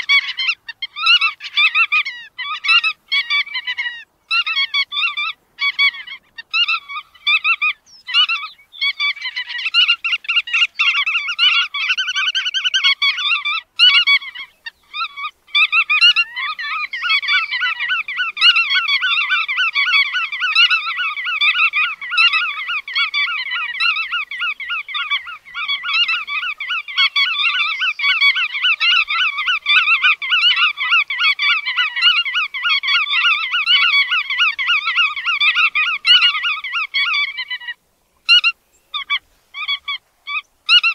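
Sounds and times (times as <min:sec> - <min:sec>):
bird calling: 0:00.0 - 0:40.9.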